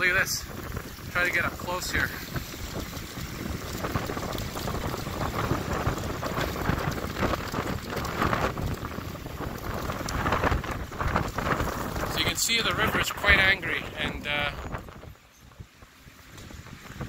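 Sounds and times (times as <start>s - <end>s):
river waves splashing on concrete: 0.0s - 14.6s
wind buffeting microphone: 0.0s - 17.0s.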